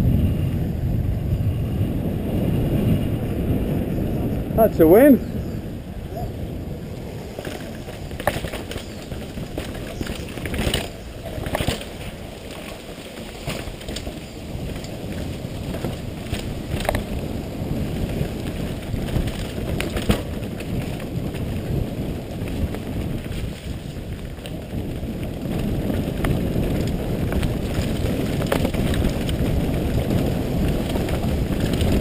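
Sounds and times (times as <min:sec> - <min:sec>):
wind and tyre rumble: 0:00.0 - 0:32.0
bike knocks and rattles: 0:06.1 - 0:32.0.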